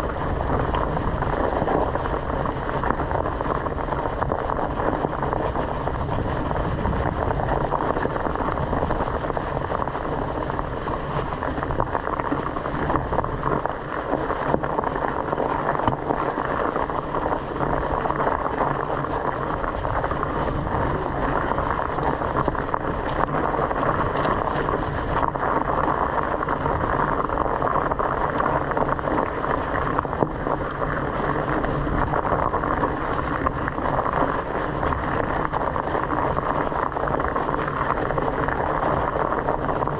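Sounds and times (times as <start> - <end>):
bicycle rolling over dirt: 0.0 - 39.9
wind on microphone: 0.0 - 39.9.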